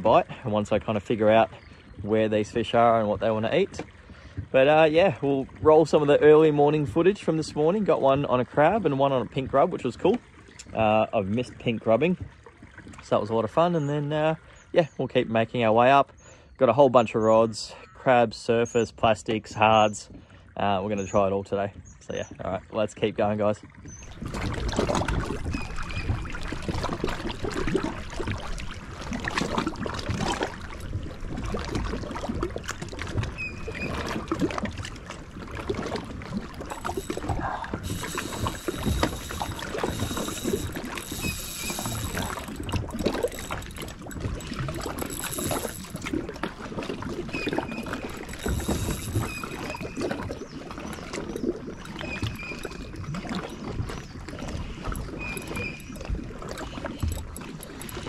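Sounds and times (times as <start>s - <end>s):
water splashing against hull: 0.0s - 58.0s.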